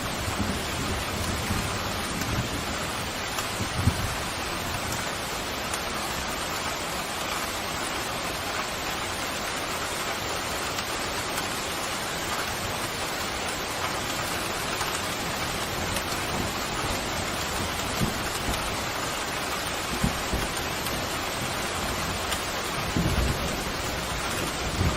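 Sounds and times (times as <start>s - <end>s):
steady rain pouring: 0.0s - 24.9s.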